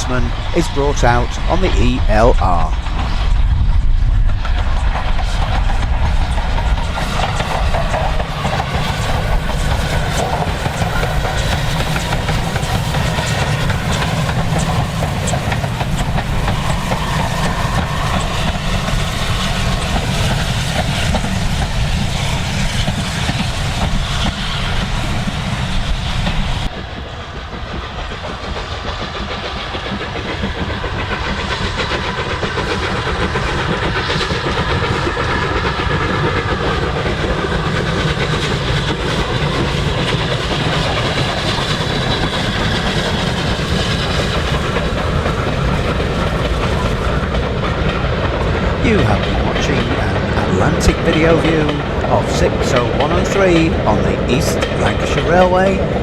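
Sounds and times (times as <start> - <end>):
steam hiss: 0.0 - 56.0
wheels rumbling on rail: 0.0 - 56.0.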